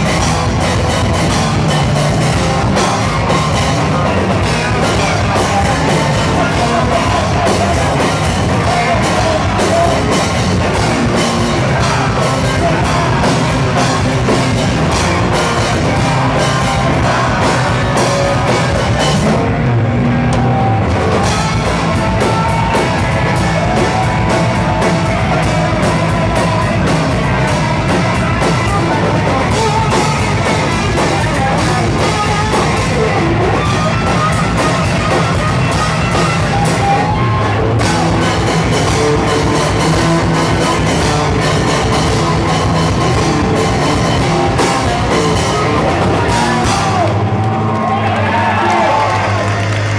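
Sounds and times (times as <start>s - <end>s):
person singing: 0.0s - 19.6s, 20.3s - 47.3s
bass guitar: 0.0s - 49.9s
distorted electric guitars: 0.0s - 49.9s
drum kit: 0.0s - 49.9s.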